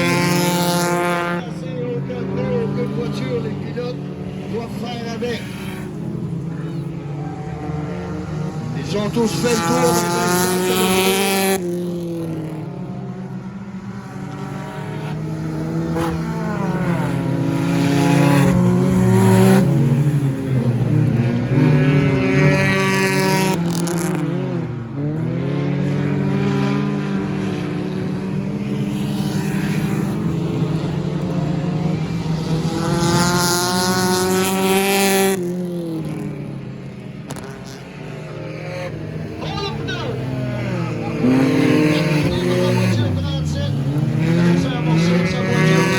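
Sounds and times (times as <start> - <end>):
stock car engines racing: 0.0 - 45.9.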